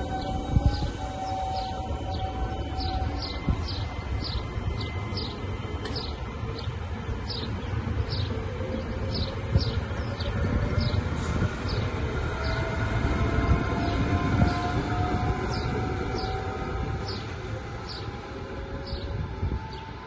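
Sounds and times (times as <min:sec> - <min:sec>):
train traction motors whining: 0:00.0 - 0:19.9
wheels rumbling on rails: 0:00.0 - 0:20.0.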